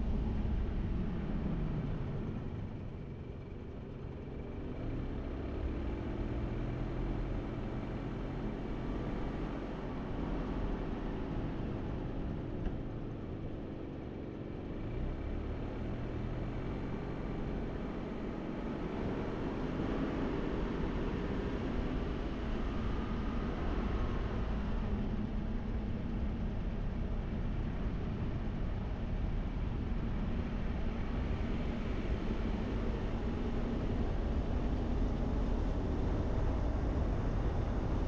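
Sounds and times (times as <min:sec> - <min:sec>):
road noise: 0:00.0 - 0:38.0.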